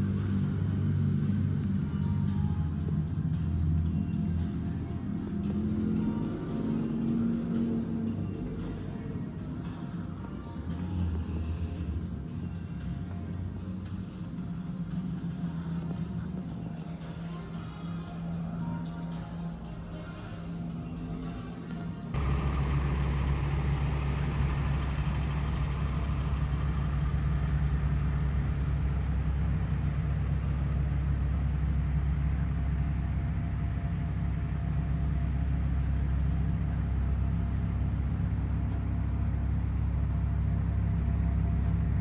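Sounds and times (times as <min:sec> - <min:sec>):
vehicle engine droning: 0:00.0 - 0:42.0.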